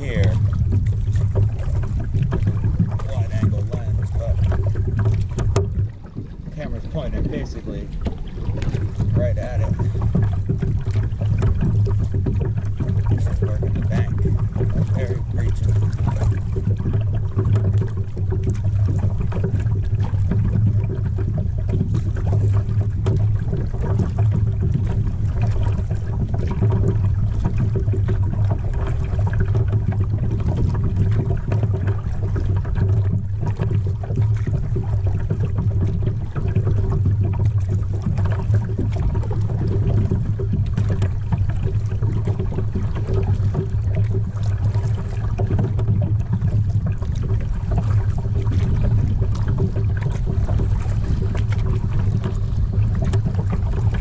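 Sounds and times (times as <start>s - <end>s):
steady low hum: 0.0s - 54.0s
water lapping against plastic hull: 0.0s - 54.0s.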